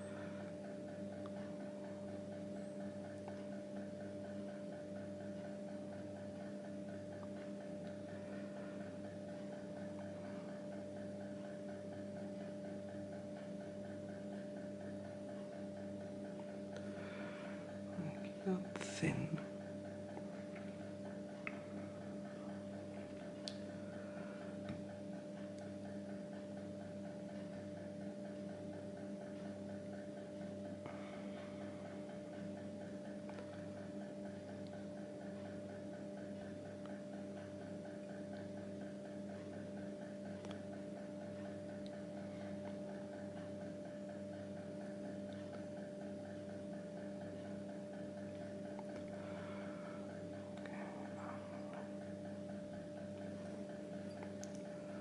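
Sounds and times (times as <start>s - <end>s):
electrical hum with low throb: 0.0s - 55.0s.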